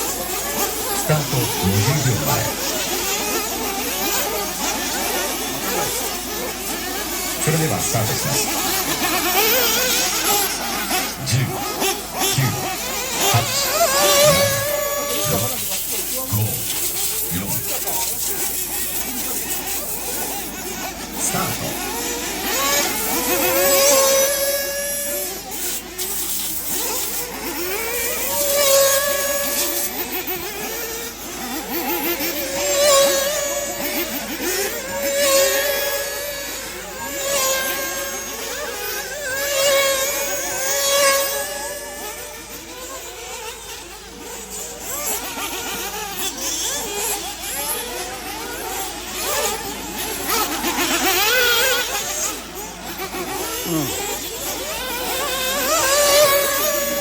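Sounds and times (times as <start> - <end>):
rc buggy engines buzzing: 0.0 - 57.0.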